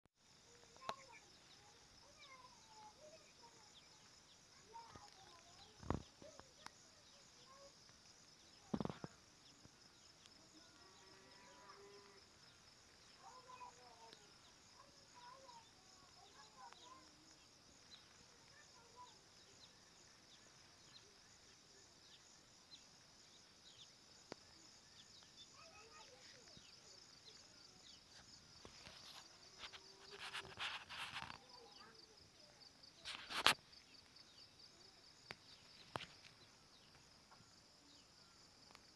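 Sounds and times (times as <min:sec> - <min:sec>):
faint chirps: 0:00.2 - 0:38.9
insects chirring: 0:00.2 - 0:38.9.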